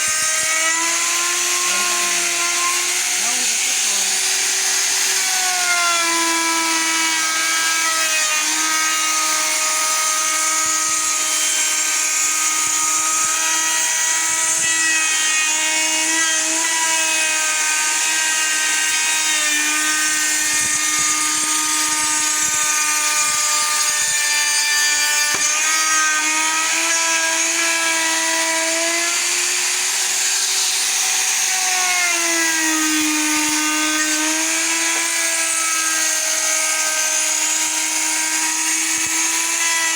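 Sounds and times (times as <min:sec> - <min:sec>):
electric router cutting wood: 0:00.0 - 0:39.9.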